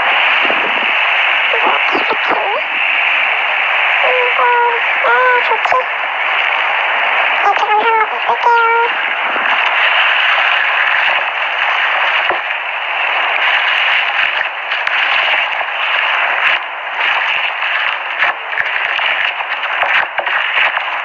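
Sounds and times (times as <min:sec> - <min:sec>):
crackles and clicks: 0:04.0 - 0:21.0.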